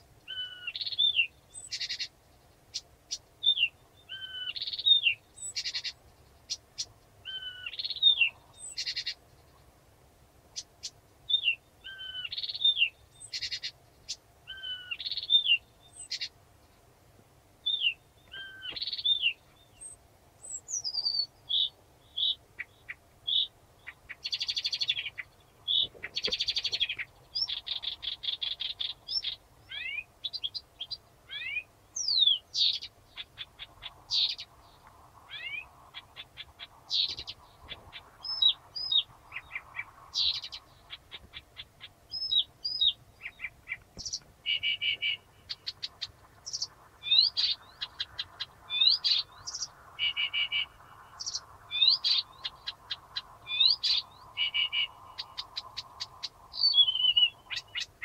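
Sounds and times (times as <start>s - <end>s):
reed warbler singing: 0.0s - 58.0s.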